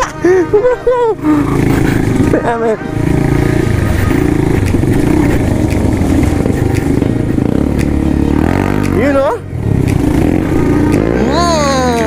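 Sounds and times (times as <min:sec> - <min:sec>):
dirt bike engine revving: 0:00.6 - 0:12.0.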